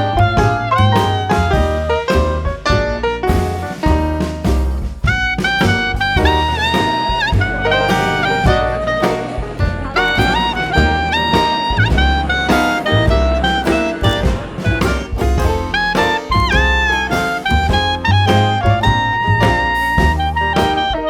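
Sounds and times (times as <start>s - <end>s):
upbeat jazz music: 0.0s - 21.0s.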